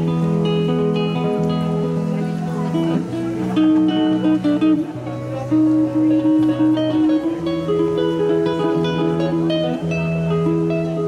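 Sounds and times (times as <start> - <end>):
guitar-led instrumental music: 0.0 - 11.0.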